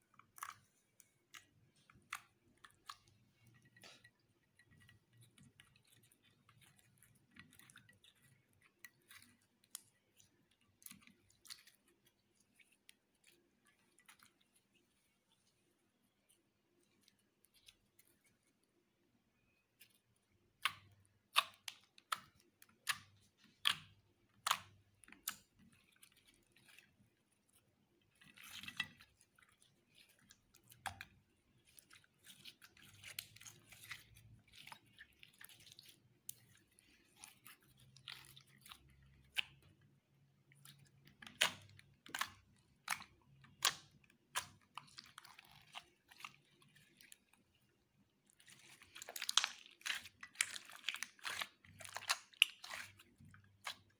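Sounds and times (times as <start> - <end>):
slime squishing by hand: 0.0 - 53.9.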